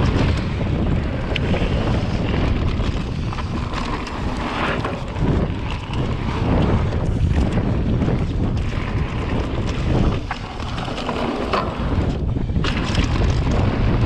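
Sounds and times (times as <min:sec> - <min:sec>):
bike knocks and rattles: 0:00.0 - 0:14.0
bike rolling on dirt trail: 0:00.0 - 0:14.0
wind buffeting the microphone: 0:00.0 - 0:14.0.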